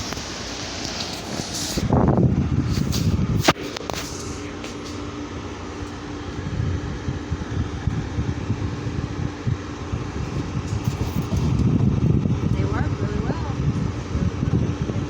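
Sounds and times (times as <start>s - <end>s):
dehumidifier fan hum: 0.0s - 15.0s.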